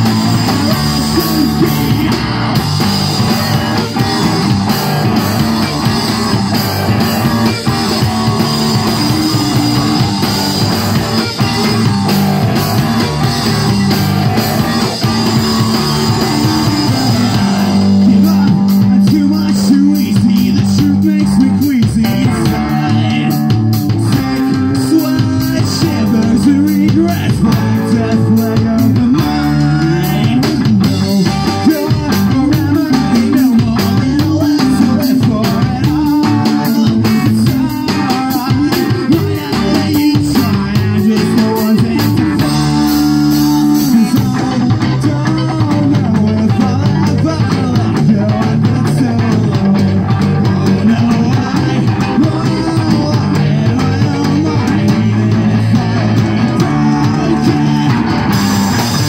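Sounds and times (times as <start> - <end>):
man singing: 0.0 - 59.0
rock band playing: 0.0 - 59.0.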